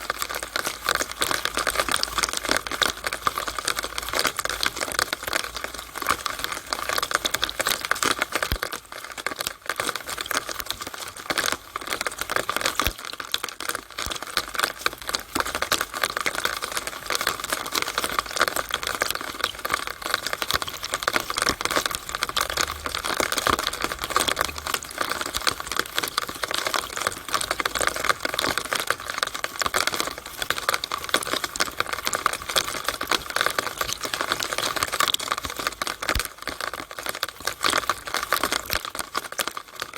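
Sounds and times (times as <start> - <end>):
rainwater dripping in a downspout: 0.0 - 39.9.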